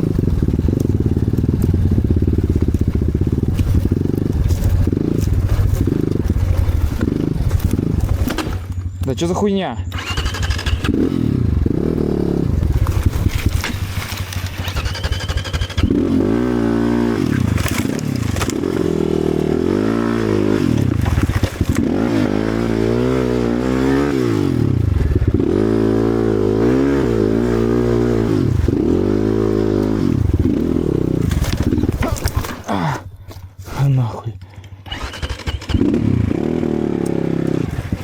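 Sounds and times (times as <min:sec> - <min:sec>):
motorcycle engine revving: 0:00.0 - 0:33.6, 0:34.6 - 0:38.0.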